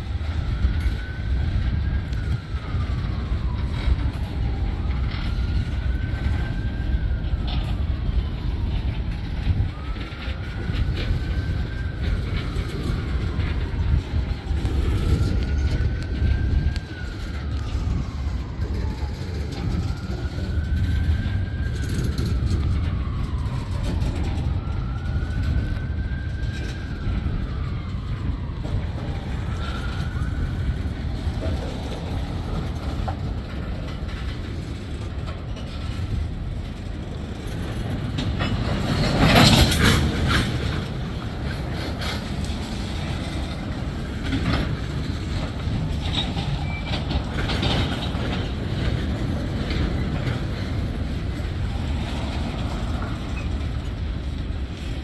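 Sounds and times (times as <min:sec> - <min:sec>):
freight train wheels rumbling: 0:00.0 - 0:55.0
rail clicks: 0:00.0 - 0:55.0.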